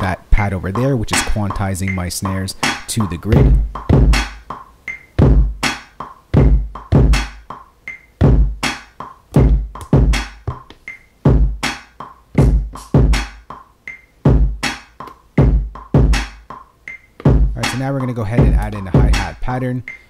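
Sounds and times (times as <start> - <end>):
drum machine kick and snare beat: 0.0 - 20.0.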